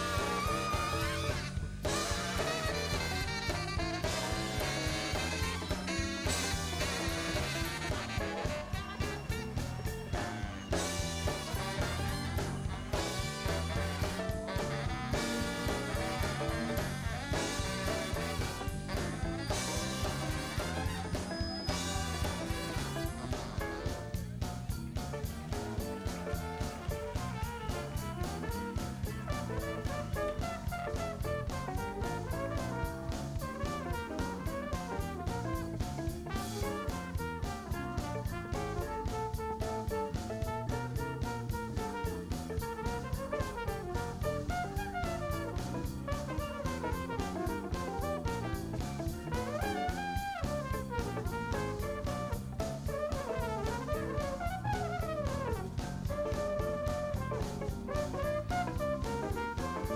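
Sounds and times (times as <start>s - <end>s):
blues-rock band playing: 0.0s - 59.9s
drum kit beat: 0.0s - 59.9s.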